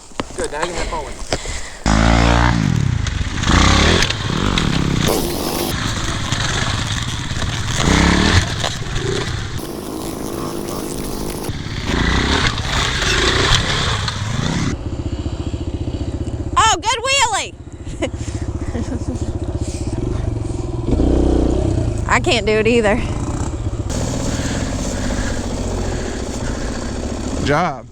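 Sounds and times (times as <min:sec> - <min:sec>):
dirt bike engine revving: 0:01.8 - 0:16.2, 0:19.4 - 0:27.9.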